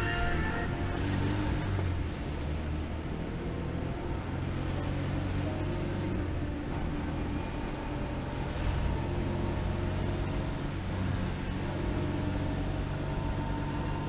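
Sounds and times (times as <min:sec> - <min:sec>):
car engine drone: 0:00.0 - 0:14.0
tyre and wind hiss: 0:00.0 - 0:14.0.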